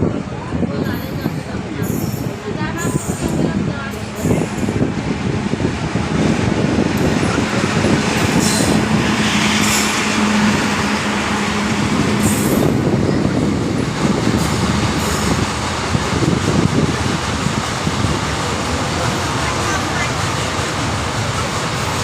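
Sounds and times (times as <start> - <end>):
train wagons rolling over rails: 0.0 - 22.0.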